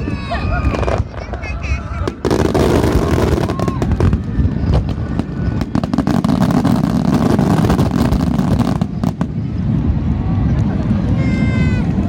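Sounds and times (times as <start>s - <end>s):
continuous low rumble: 0.0s - 12.0s
fireworks crackling and popping: 0.0s - 12.0s.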